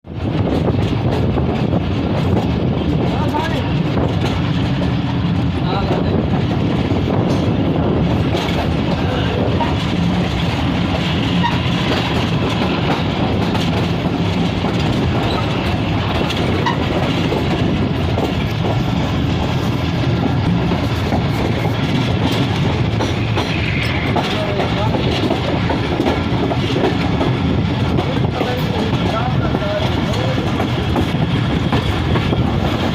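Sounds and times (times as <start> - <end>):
train wheels rumbling on track: 0.0 - 32.9
rail clatter: 0.1 - 32.9.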